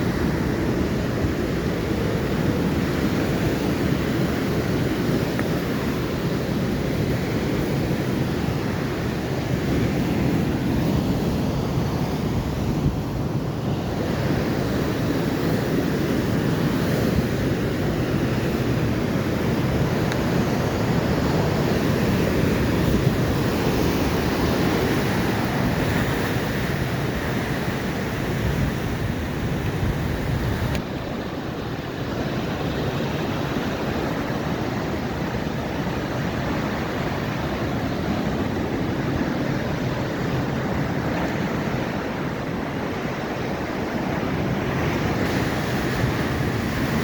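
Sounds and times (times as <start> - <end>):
ocean waves washing ashore: 0.0 - 47.0
wind buffeting microphone: 0.0 - 47.0.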